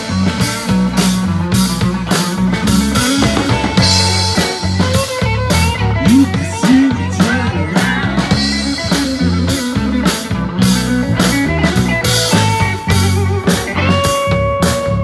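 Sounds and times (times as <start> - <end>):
drum kit: 0.0 - 15.0
electric guitar lead with bent notes: 0.0 - 15.0.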